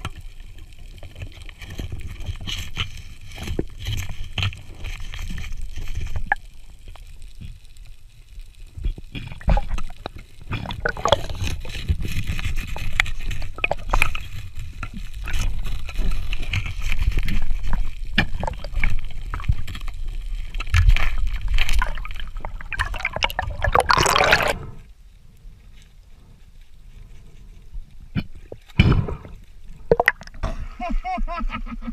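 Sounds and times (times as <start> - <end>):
water gurgling and sloshing: 0.0 - 30.8.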